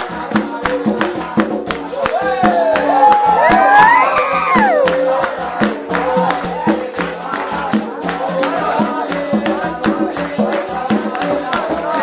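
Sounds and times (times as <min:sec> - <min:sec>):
group singing: 0:00.0 - 0:12.0
tambourine and percussion beat: 0:00.0 - 0:12.0.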